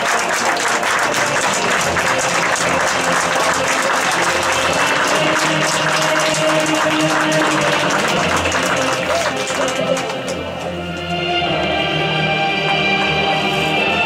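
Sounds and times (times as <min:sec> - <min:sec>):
crowd applauding: 0:00.0 - 0:13.5
music playing: 0:00.0 - 0:14.0.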